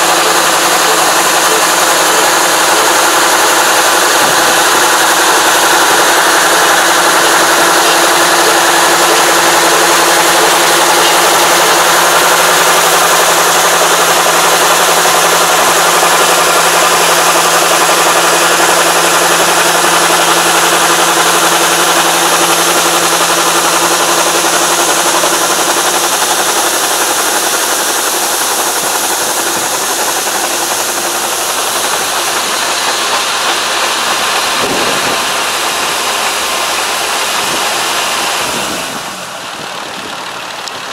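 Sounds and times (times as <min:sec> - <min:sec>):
engine hum: 0:00.0 - 0:40.9
grain rushing from spout: 0:00.0 - 0:40.9.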